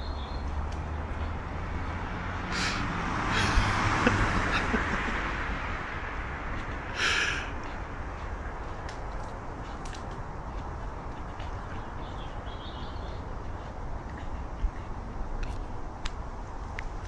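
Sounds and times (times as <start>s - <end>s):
steady low rumble: 2.8s - 17.0s.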